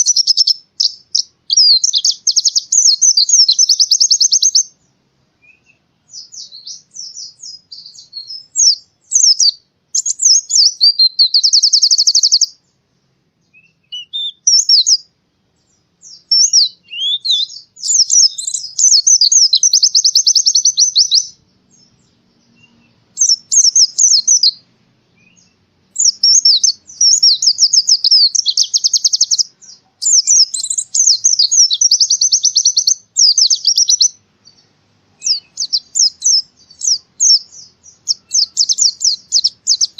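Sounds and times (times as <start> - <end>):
bird chattering twitters and trills: 0.0 - 12.8, 13.5 - 39.9.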